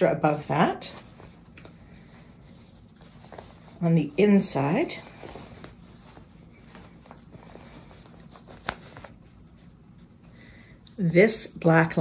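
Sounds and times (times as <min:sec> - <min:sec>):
fabric rustling: 0:00.0 - 0:11.4.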